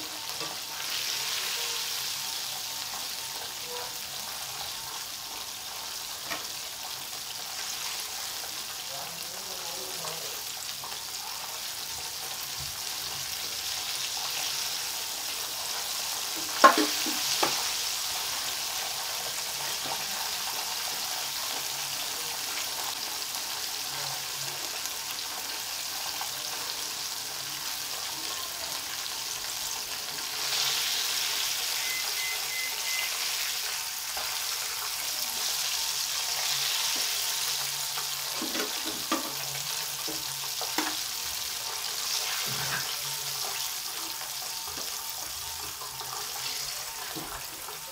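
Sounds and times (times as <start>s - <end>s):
chicken deep-frying in oil: 0.0s - 47.9s.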